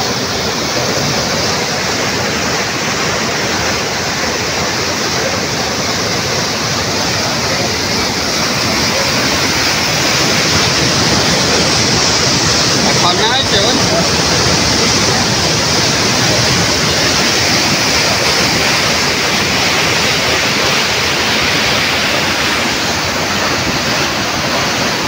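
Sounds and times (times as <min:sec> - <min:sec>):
floodwater rushing in rapids: 0:00.0 - 0:25.0.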